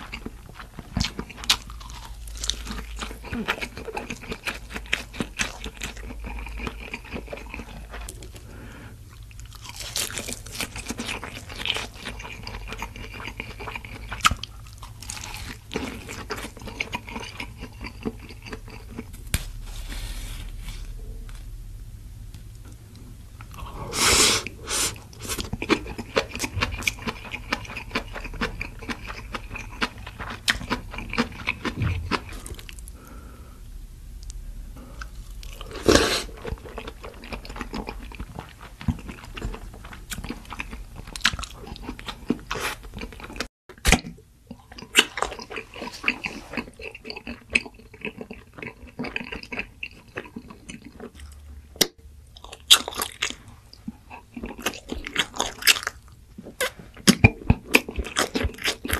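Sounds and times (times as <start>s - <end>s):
crunchy food chewing: 0.0s - 19.3s, 24.9s - 33.0s, 34.9s - 58.9s.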